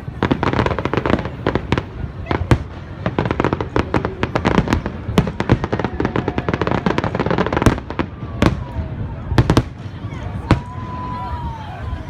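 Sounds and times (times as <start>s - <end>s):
firework bangs: 0.0s - 11.5s
fireworks crackling: 0.0s - 11.6s.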